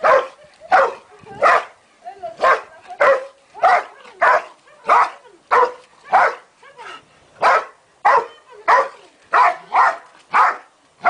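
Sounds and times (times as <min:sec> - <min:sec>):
dog barking: 0:00.0 - 0:01.7, 0:02.4 - 0:06.4, 0:07.4 - 0:10.6.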